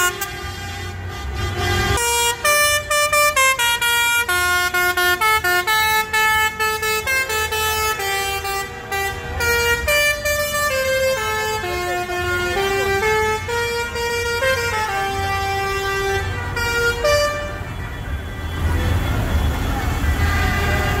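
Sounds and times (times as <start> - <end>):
musical vehicle horn: 0.0 - 21.0.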